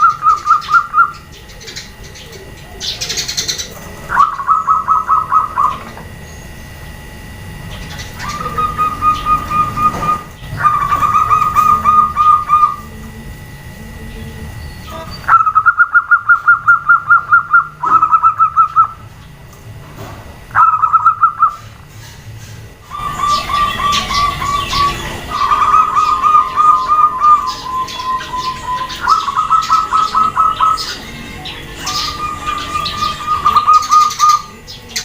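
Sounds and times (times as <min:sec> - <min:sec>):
doves cooing in staccato trills: 0:00.0 - 0:19.4, 0:20.4 - 0:21.8, 0:22.7 - 0:35.0.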